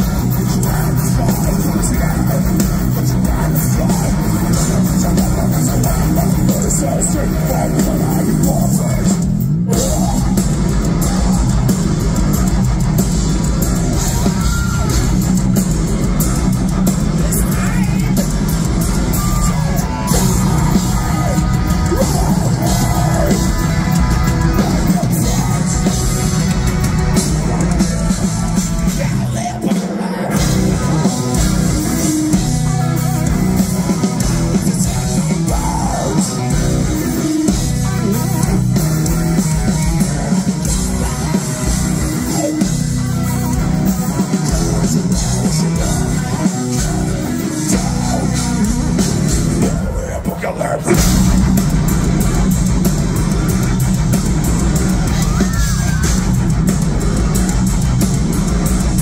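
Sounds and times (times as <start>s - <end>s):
person singing and yelling: 0.0s - 52.9s, 53.5s - 59.0s
distorted electric guitars: 0.0s - 59.0s
drum kit: 0.0s - 59.0s.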